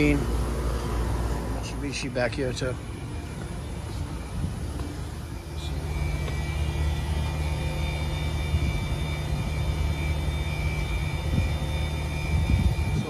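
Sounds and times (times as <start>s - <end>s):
air-conditioning units humming: 0.0s - 13.0s
thin high whine: 0.0s - 13.0s.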